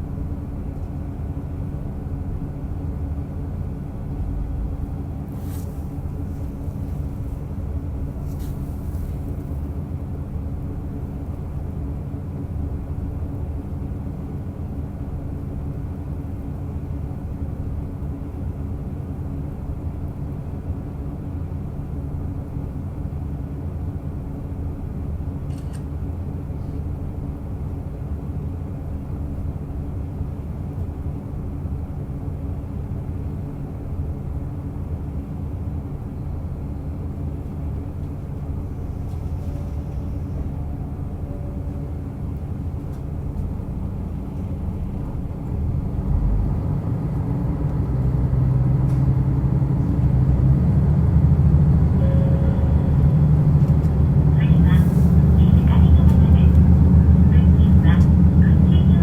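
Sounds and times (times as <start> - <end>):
rail rumble: 0.0 - 25.4, 26.0 - 59.0
train engine drone: 0.0 - 59.0.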